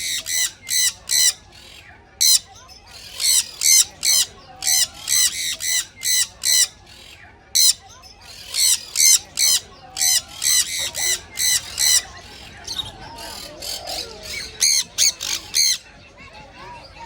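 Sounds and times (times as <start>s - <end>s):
parrot squawking: 0.0s - 15.8s.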